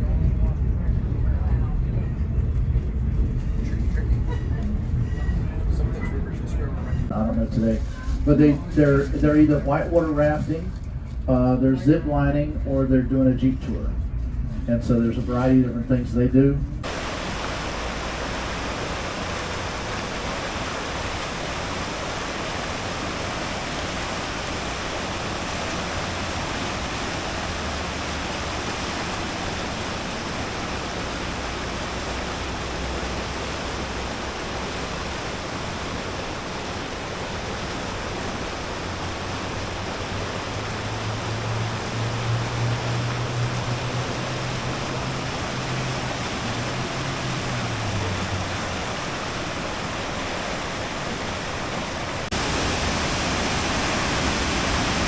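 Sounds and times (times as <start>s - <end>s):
locomotive low drone: 0.0s - 55.0s
train car rushing noise: 0.0s - 55.0s.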